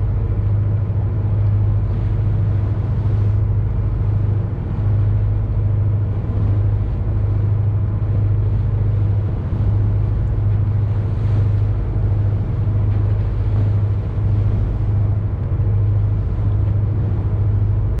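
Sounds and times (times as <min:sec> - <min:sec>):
boat engine humming: 0:00.0 - 0:18.0
continuous rushing noise: 0:00.0 - 0:18.0.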